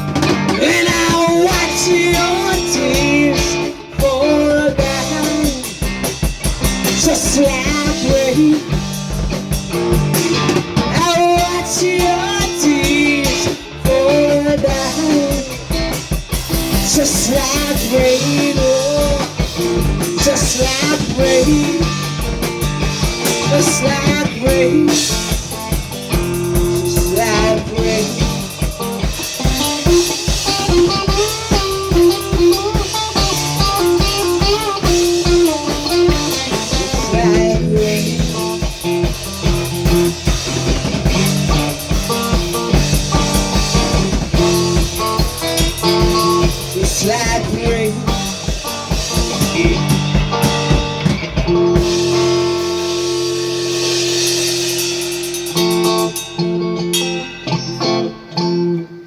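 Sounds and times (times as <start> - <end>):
drum-kit beat: 0.0 - 56.4
instrumental band music: 0.0 - 58.9
electric guitar: 0.0 - 59.0.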